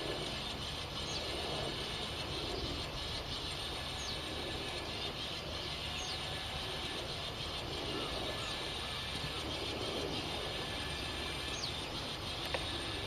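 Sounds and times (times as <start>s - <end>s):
low background rumble: 0.0s - 13.0s
songbird calls: 0.0s - 13.0s.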